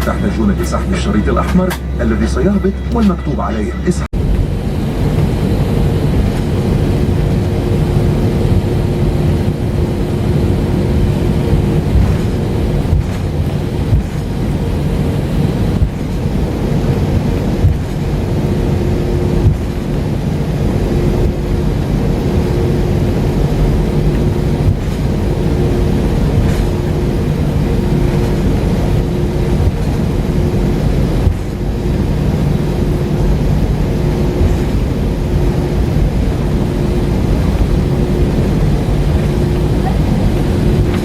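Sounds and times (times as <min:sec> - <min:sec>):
jet cabin engine rush: 0:00.0 - 0:41.0.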